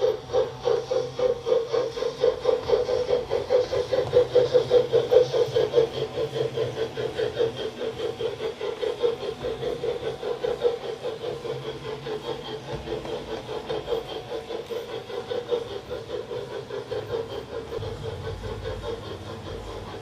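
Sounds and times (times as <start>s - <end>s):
simulated steam locomotive chuffs: 0.0s - 20.0s.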